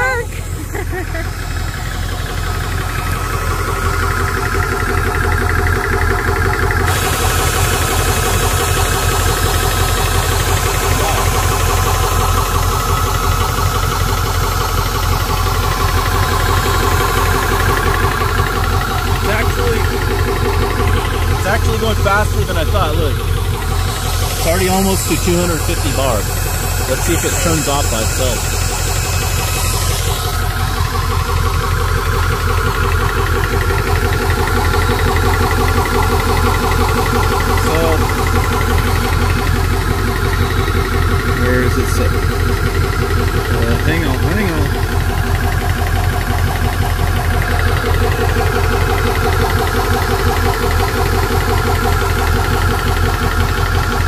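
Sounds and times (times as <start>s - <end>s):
compressor piston chugging: 0.0s - 54.0s
cooling fans whirring: 0.0s - 54.0s.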